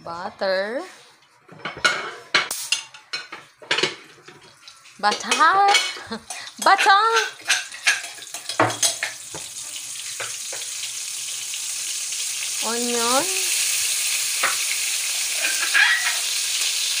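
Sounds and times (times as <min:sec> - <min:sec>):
butter sizzling in a hot wok: 0:02.5 - 0:17.0.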